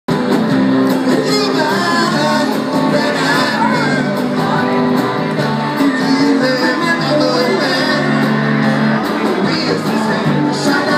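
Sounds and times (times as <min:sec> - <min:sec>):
live rock band playing: 0:00.1 - 0:10.9
person singing: 0:00.9 - 0:10.9.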